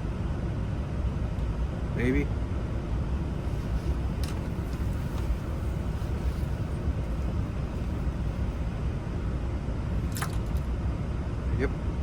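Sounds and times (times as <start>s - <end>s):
low rumble of background noise: 0.0s - 12.0s.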